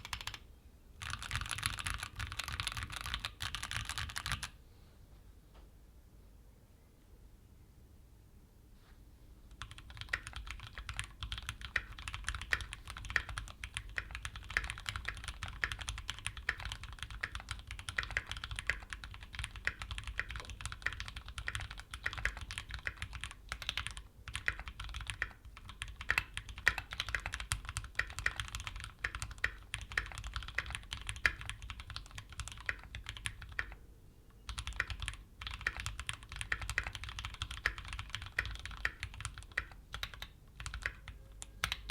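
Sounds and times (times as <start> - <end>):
mechanical keyboard typing: 0.0 - 0.4, 1.0 - 4.6, 9.5 - 33.8, 34.5 - 41.9.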